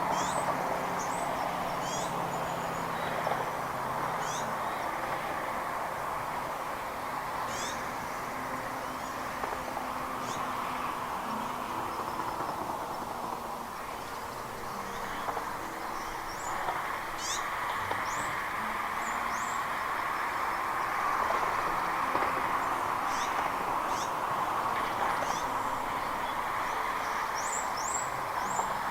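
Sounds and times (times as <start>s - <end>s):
steady background hiss: 0.0s - 28.9s
birds chirping: 0.1s - 4.9s, 7.4s - 9.4s, 10.1s - 20.9s, 21.7s - 28.9s.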